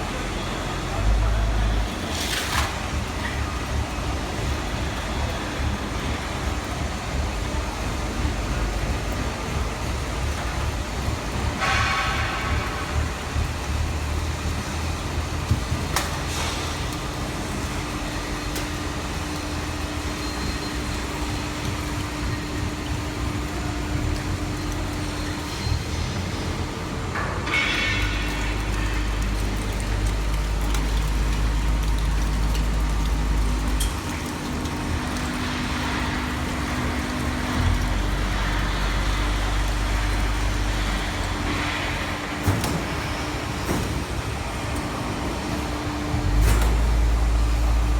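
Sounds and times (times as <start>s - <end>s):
hydraulic baler motor hum: 0.0s - 47.9s.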